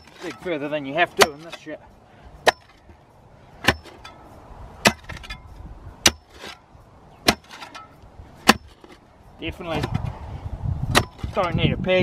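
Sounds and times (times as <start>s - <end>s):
spade striking stony ground: 0.0s - 3.0s, 3.6s - 10.1s, 10.9s - 11.6s.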